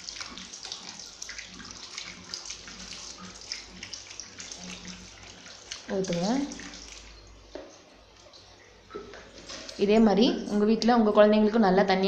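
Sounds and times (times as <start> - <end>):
water pouring and splashing: 0.0 - 10.6.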